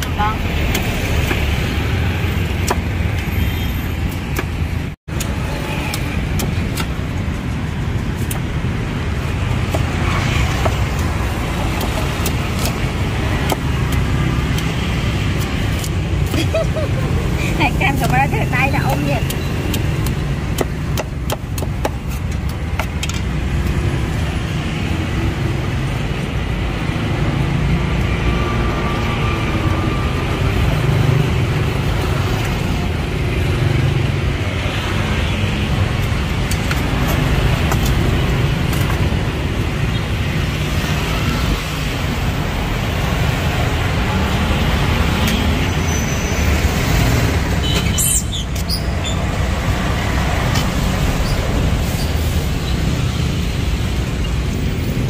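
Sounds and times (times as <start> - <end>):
street traffic: 0.0 - 55.0.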